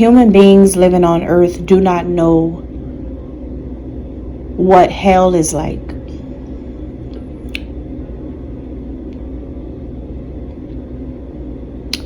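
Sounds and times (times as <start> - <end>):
low rumbling room noise: 0.0 - 12.0.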